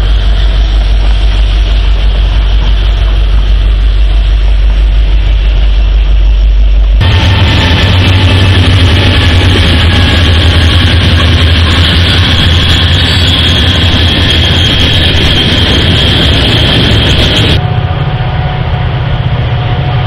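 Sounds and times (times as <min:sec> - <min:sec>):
freight locomotive engines rumbling: 0:00.0 - 0:20.0
high-pitched whine: 0:00.0 - 0:20.0.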